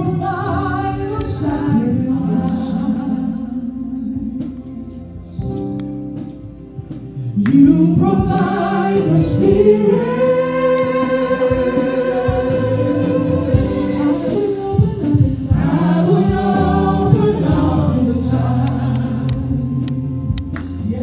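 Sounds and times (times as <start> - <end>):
choir singing slow chorus: 0.0 - 5.0, 7.4 - 21.0
steady low bass: 0.0 - 21.0.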